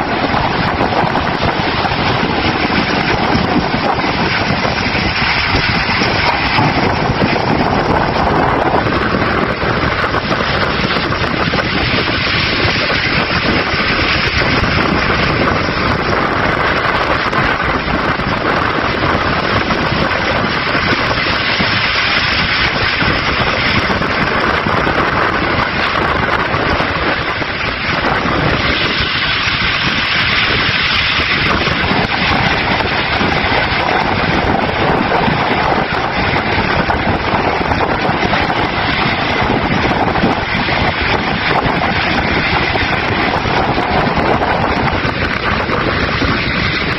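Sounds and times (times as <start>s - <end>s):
heavy seas roaring: 0.0s - 46.9s
storm wind: 0.0s - 46.9s.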